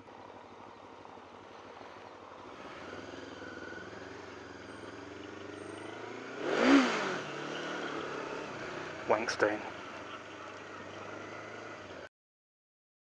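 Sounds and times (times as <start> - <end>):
motorcycle engine pulling away: 0.2 - 12.1.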